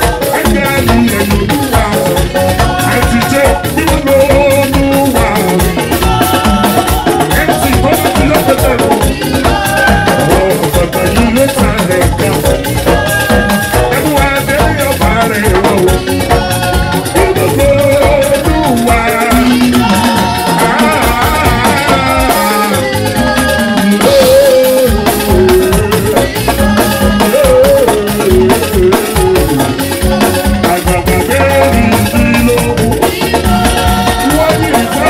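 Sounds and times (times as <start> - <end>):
drums and percussion: 0.0 - 35.0
person singing: 0.0 - 35.0.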